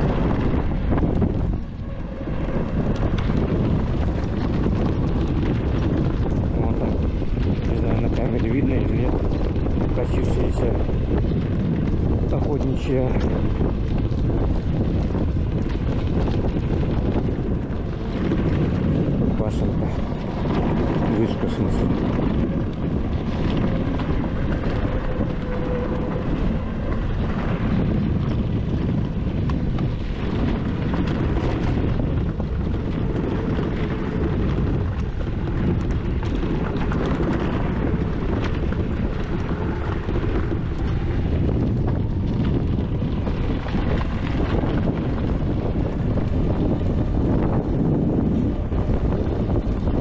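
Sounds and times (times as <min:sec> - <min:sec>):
electric vehicle rumble: 0:00.0 - 0:50.0
wind buffeting microphone: 0:00.0 - 0:50.0.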